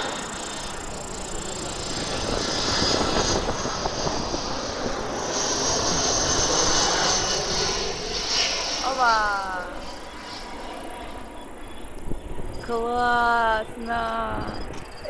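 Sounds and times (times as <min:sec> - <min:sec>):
jet airliner engine whine: 0:00.0 - 0:15.0.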